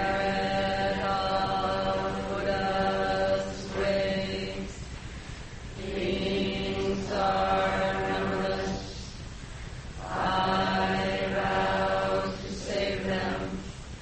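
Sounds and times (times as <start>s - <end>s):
voices chanting: 0.0s - 4.9s, 5.8s - 9.2s, 10.0s - 13.7s.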